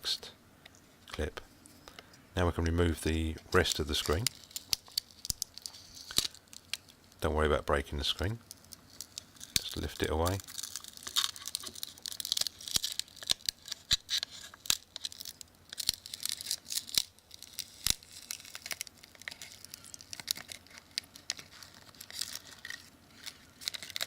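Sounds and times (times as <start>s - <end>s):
adhesive crackling and snapping: 3.5s - 7.3s, 8.4s - 24.0s.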